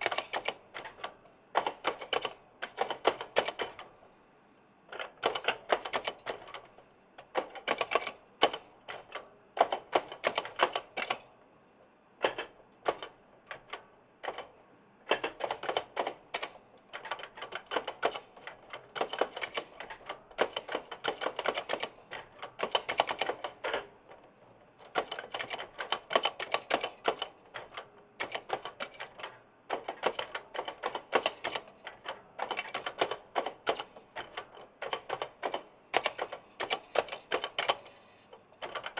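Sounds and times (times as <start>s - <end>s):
mechanical keyboard clicks: 0.0s - 3.9s, 5.0s - 11.2s, 15.1s - 23.9s, 24.9s - 38.0s, 38.6s - 38.9s.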